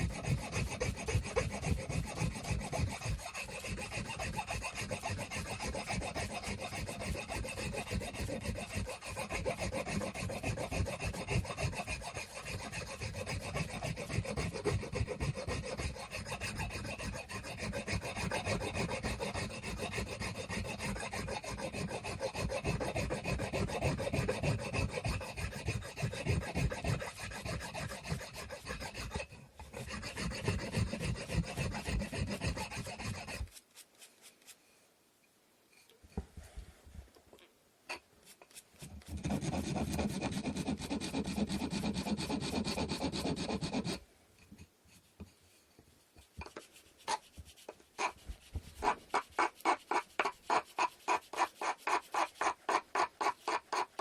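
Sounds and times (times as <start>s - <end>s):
wood being sanded by hand: 0.0s - 34.6s, 38.2s - 44.0s, 46.2s - 54.0s.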